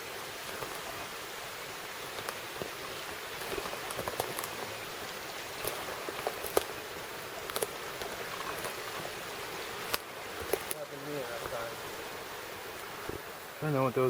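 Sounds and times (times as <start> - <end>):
creek flowing: 0.0 - 14.0
rain hissing: 0.0 - 14.0.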